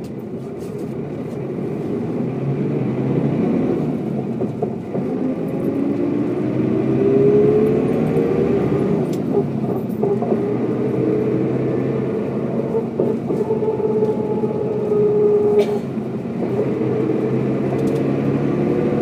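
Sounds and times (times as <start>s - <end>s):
bus diesel engine accelerating: 0.0s - 19.0s.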